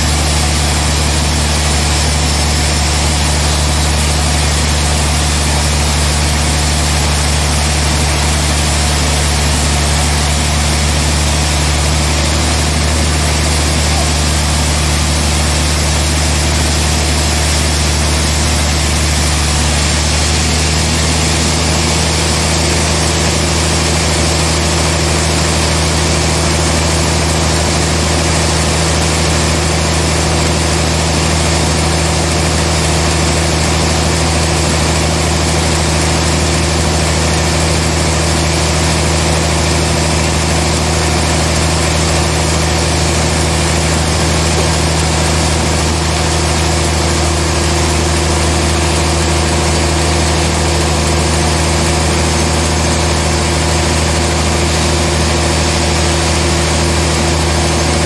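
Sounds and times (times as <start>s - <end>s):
sawmill machine hum: 0.0s - 58.0s.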